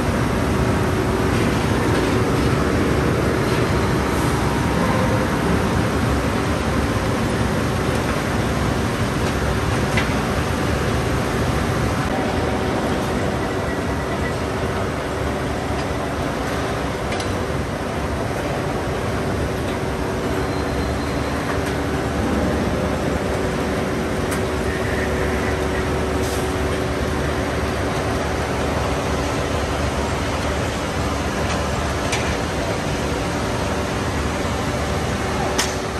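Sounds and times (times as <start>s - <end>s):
rolling mill machinery running: 0.0s - 35.9s.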